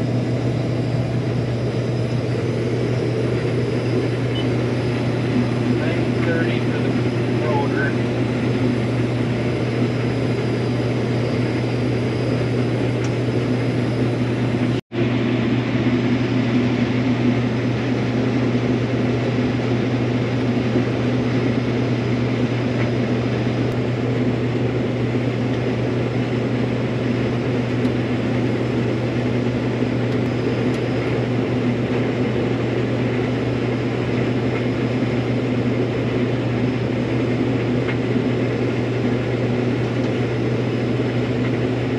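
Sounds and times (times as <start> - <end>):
combine harvester engine drone: 0.0 - 41.9.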